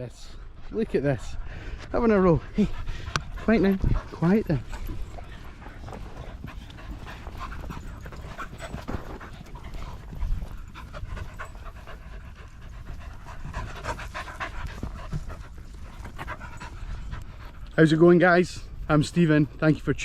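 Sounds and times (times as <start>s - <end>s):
small dogs panting: 0.0s - 19.8s.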